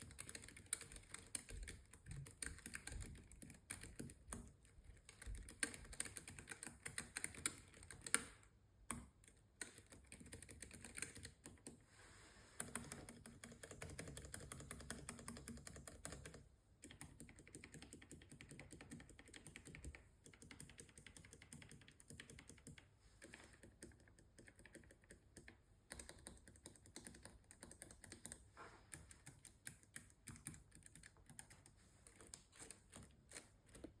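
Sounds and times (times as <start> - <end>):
mechanical keyboard typing: 0.0 - 11.8, 12.6 - 34.0.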